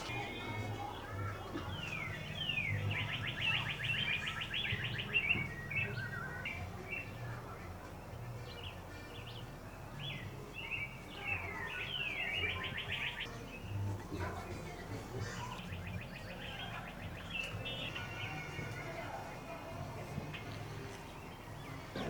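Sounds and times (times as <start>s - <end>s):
bird chirps: 0.0s - 7.3s, 7.9s - 18.9s
songbird singing with trill: 0.0s - 22.0s.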